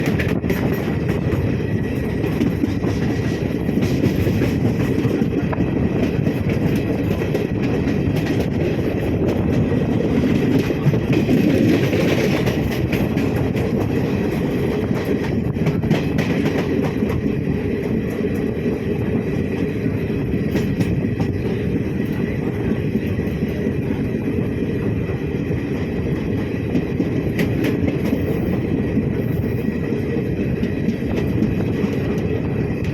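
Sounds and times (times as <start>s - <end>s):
train rumbling on rails: 0.0s - 32.9s
wheels clacking on track: 0.0s - 32.9s.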